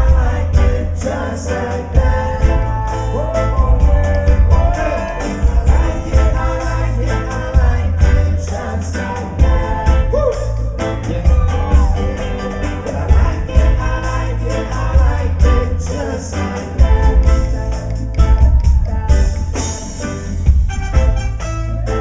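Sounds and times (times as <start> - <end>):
person singing: 0.0 - 20.3
heavy pulsing bass line: 0.0 - 22.0
reggae band playing: 0.0 - 22.0.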